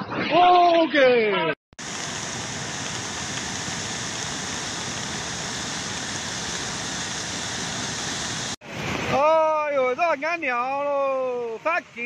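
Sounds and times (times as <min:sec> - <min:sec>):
river torrent rushing: 0:01.8 - 0:12.0.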